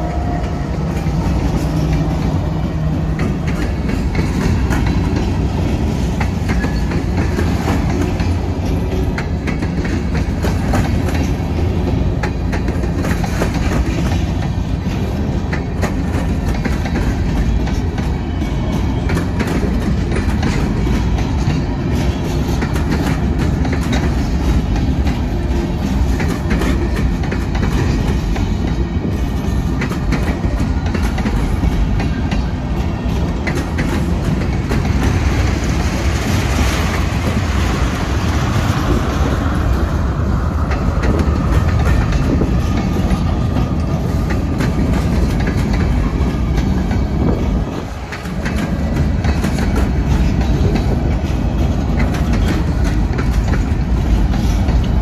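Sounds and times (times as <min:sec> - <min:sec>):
freight train rumbling past: 0:00.0 - 0:55.0
wheels clacking over rail joints: 0:00.0 - 0:55.0.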